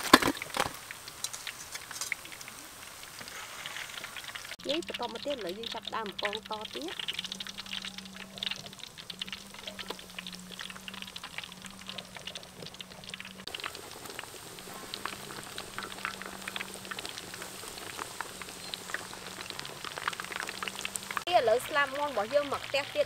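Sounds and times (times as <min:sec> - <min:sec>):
chicken deep-frying in hot oil: 0:00.0 - 0:23.0.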